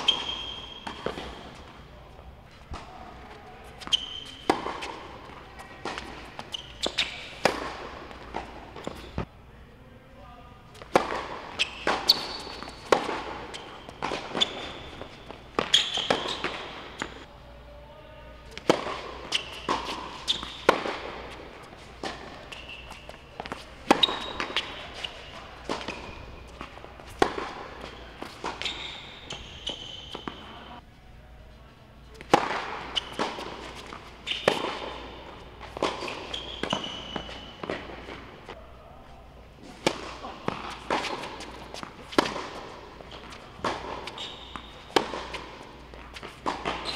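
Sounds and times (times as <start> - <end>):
tennis ball bouncing: 0.0 - 2.0, 2.6 - 9.3, 10.7 - 17.3, 18.5 - 30.8, 32.1 - 38.6, 39.6 - 46.9
racket hitting tennis ball: 0.0 - 9.3, 10.7 - 17.3, 18.4 - 30.8, 32.1 - 38.6, 39.6 - 46.9
sneakers squeaking on court: 0.0 - 9.3, 10.7 - 17.2, 18.5 - 30.8, 32.1 - 38.6, 39.6 - 46.9.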